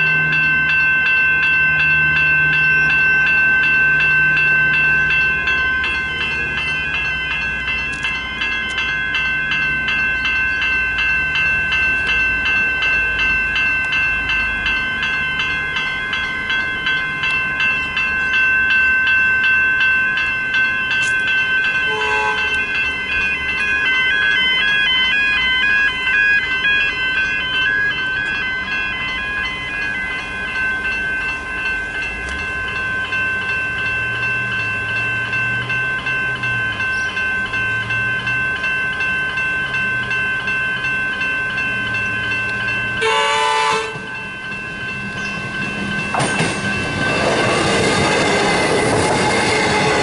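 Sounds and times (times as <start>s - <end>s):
level crossing bell ringing: 0.0s - 50.0s
passing train rumble: 0.0s - 50.0s.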